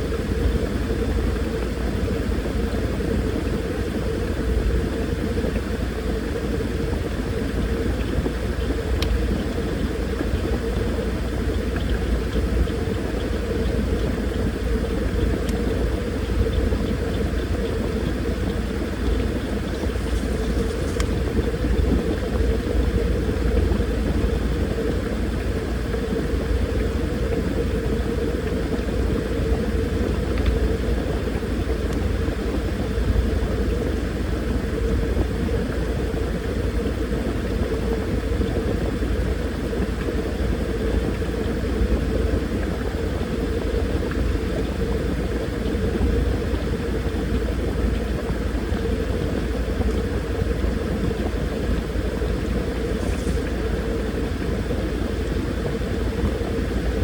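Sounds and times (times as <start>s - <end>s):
washing machine running: 0.0s - 57.0s.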